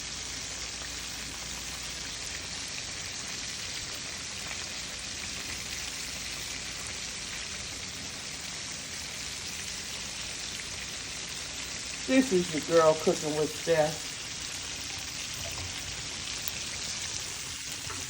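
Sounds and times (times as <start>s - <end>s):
chicken wings deep-frying in oil: 0.0s - 18.0s.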